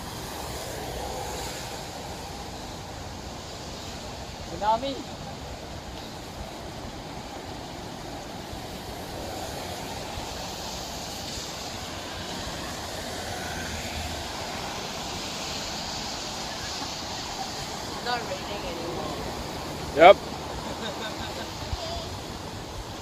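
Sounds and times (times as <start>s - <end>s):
traffic on a wet road: 0.0s - 23.0s.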